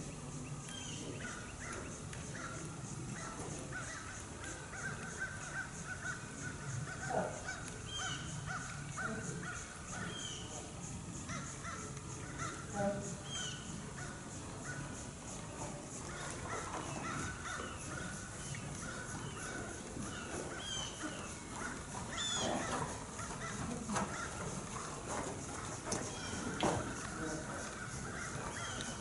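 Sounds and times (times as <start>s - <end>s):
bird calls: 0.0s - 29.0s.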